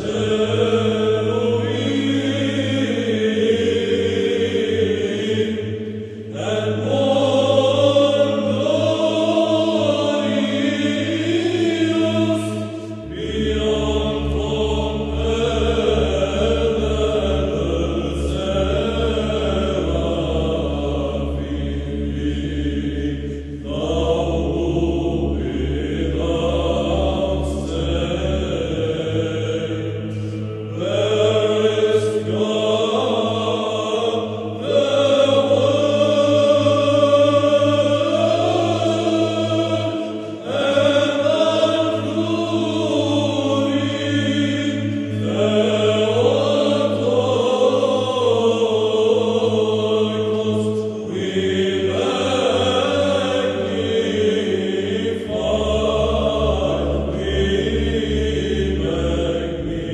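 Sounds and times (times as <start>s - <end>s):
held low drone: 0.0s - 59.9s
voices chanting a hymn: 0.0s - 59.9s.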